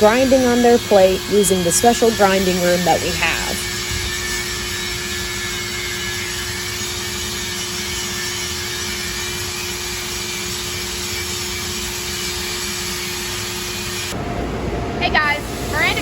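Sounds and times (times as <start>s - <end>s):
power grinder grinding metal: 0.0s - 14.2s.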